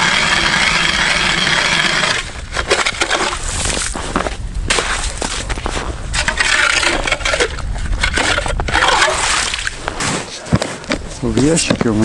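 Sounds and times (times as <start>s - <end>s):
ice auger grinding into ice: 0.0s - 10.1s.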